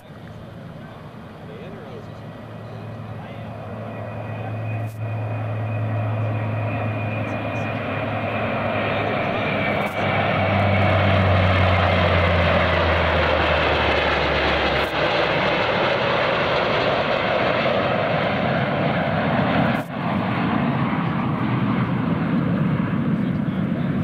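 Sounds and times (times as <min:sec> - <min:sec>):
aircraft engine roar: 0:00.0 - 0:24.0
low propeller hum: 0:00.0 - 0:24.0.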